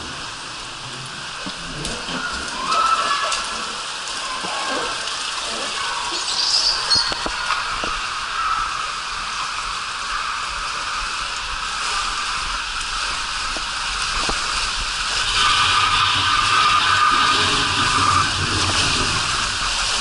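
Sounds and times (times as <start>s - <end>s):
water rushing in slide tube: 0.0s - 20.0s.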